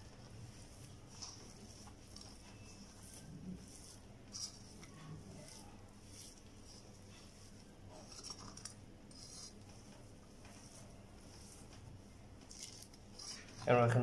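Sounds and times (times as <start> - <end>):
potato being mashed: 0.0 - 14.0.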